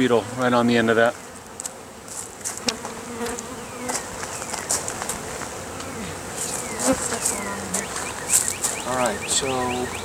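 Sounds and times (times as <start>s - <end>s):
bee flying past: 0.0s - 10.0s
honeybees buzzing: 0.0s - 10.0s.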